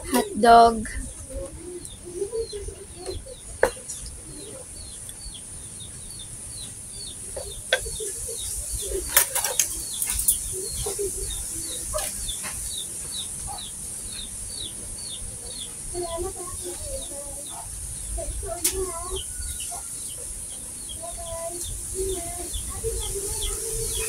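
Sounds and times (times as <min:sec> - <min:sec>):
chick peeping: 0:00.0 - 0:24.0
chicken clucks: 0:01.0 - 0:05.4, 0:07.0 - 0:24.0.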